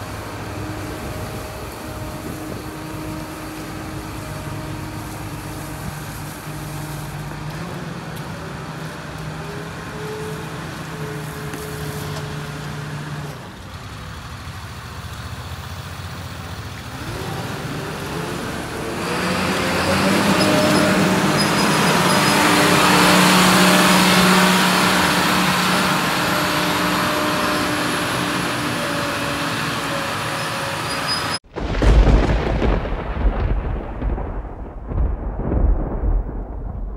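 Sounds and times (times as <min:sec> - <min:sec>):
rushing fan noise: 0:00.0 - 0:31.9
diesel engine revving: 0:00.0 - 0:32.8.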